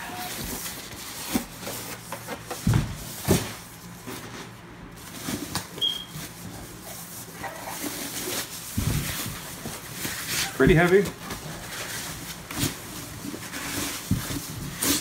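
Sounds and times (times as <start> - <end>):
foam and plastic bag rustling: 0.0 - 15.0.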